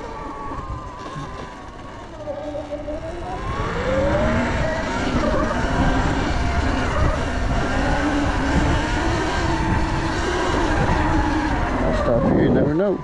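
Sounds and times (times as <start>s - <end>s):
electric motor whining: 0.0s - 13.0s
wind: 0.0s - 13.0s.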